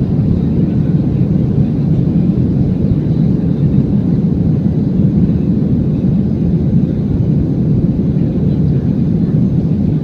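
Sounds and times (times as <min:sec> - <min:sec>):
jet engine and airflow roar: 0:00.0 - 0:10.0.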